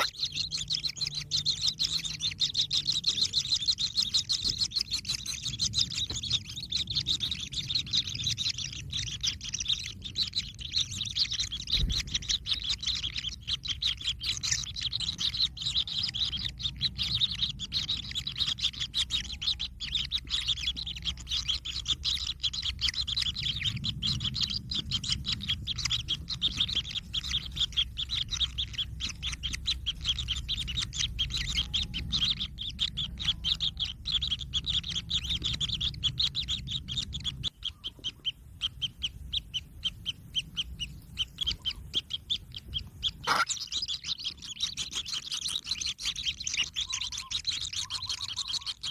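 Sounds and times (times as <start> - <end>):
bird chicks chirping: 0.0 - 48.9
steady low rumble: 0.0 - 48.9.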